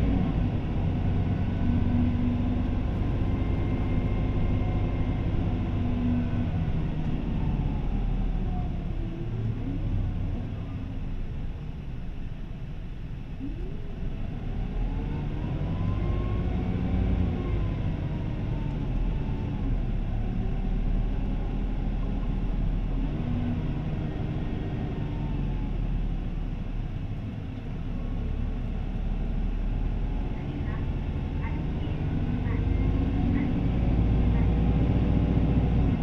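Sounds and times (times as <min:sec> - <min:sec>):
bus diesel engine drone: 0:00.0 - 0:36.0.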